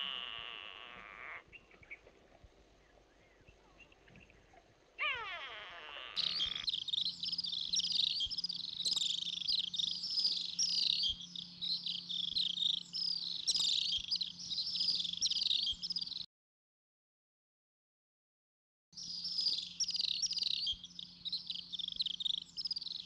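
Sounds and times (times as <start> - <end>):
birds chirping: 0.0 - 16.3, 19.0 - 23.0.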